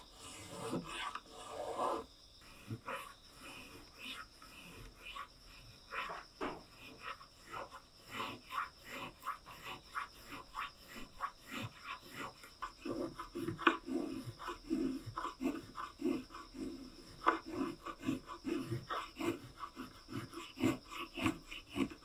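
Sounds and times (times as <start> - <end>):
spokeshave shaving wood: 0.0 - 22.0.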